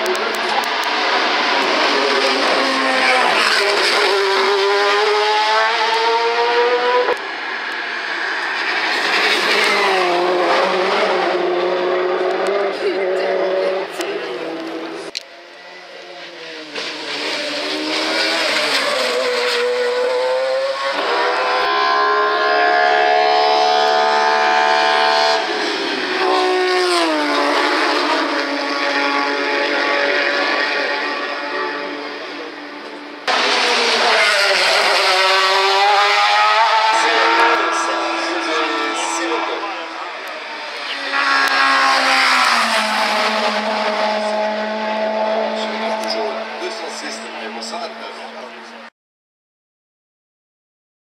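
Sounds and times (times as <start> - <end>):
rally car engine at full throttle: 0.0 - 48.9.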